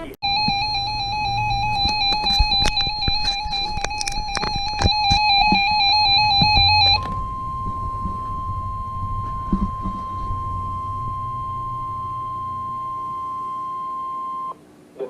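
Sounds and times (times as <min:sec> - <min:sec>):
clicks: 0:00.2 - 0:13.9
electronic warbling alert tone: 0:00.2 - 0:14.5
steady alarm tone: 0:00.2 - 0:14.5.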